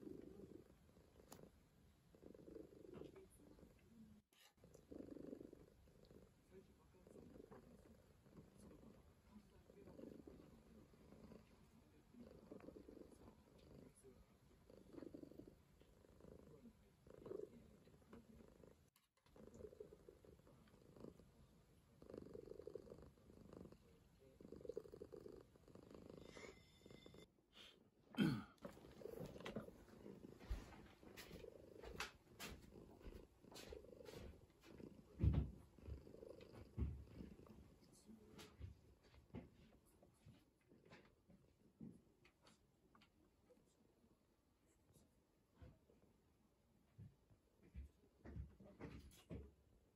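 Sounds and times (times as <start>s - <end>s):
cat purring faintly: 0.0s - 27.3s, 28.6s - 49.9s.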